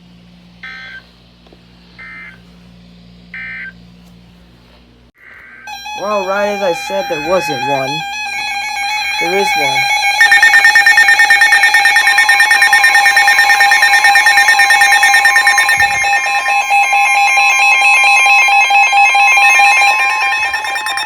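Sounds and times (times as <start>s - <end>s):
steady warning tone: 0.0s - 4.3s, 5.2s - 21.0s
pulsing electronic alarm tone: 0.6s - 1.0s, 2.0s - 2.4s, 3.3s - 3.8s, 5.3s - 21.0s.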